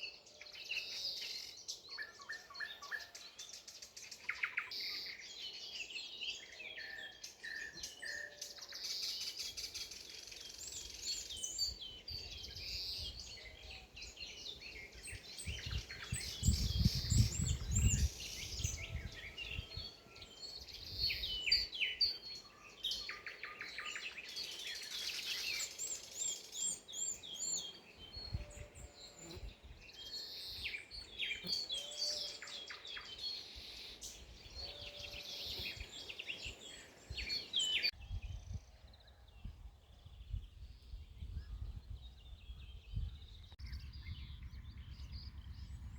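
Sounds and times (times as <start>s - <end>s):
songbirds singing: 0.0s - 45.9s.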